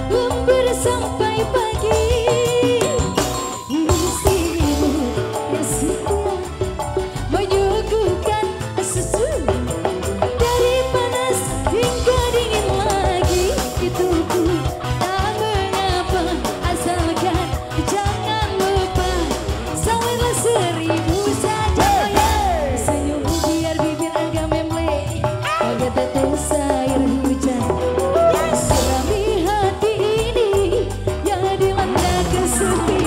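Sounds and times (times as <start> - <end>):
live band with guitars and drums: 0.0 - 33.0
woman singing into microphone: 0.0 - 33.0.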